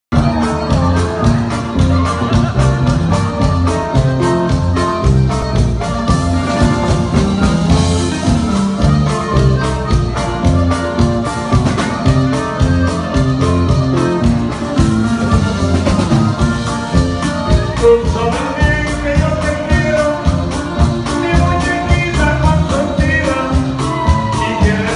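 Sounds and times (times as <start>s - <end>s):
electric guitar: 0.1s - 24.9s
live band playing: 0.1s - 24.9s.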